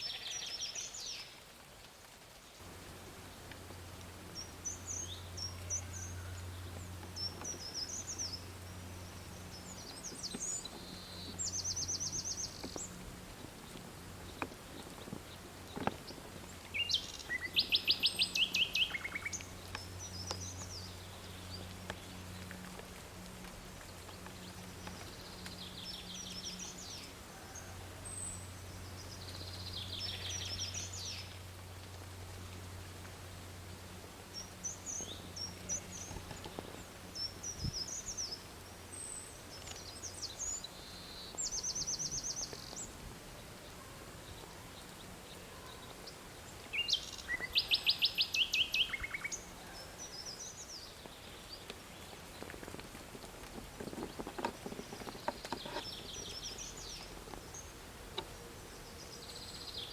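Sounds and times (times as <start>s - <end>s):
songbirds trilling: 0.0s - 1.3s, 2.6s - 59.9s
faint low hum: 2.0s - 59.9s.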